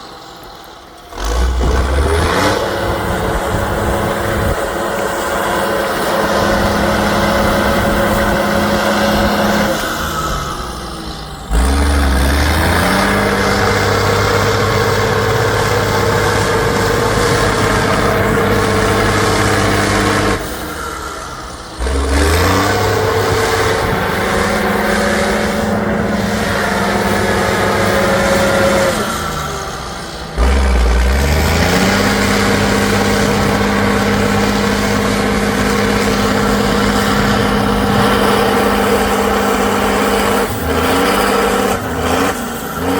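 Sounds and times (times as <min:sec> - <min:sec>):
truck engine revving under load: 0:00.0 - 0:42.9.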